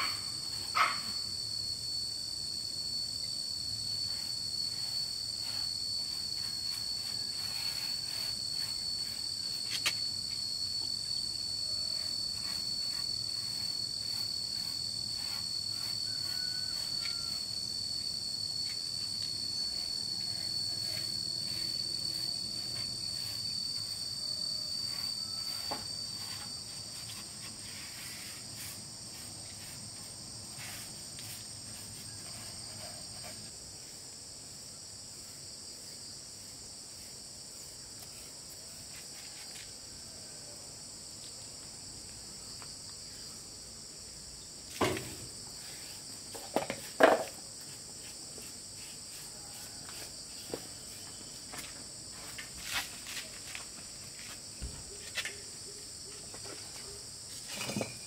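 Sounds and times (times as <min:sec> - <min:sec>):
insect shrilling tone: 0:00.0 - 0:34.1, 0:42.2 - 0:58.0
faint insect hiss: 0:00.0 - 0:58.0.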